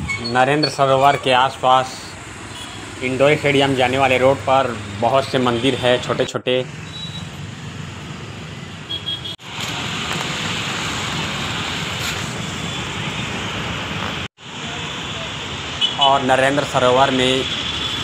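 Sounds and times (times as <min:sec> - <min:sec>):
road traffic hiss: 0:00.0 - 0:18.0.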